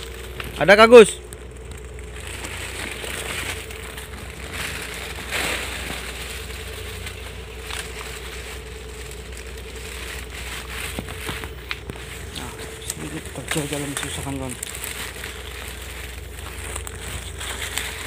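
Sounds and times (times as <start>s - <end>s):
brushing past undergrowth: 0.0s - 18.0s
footsteps crunching dry leaves: 0.0s - 18.0s
steady low hum: 0.0s - 18.0s.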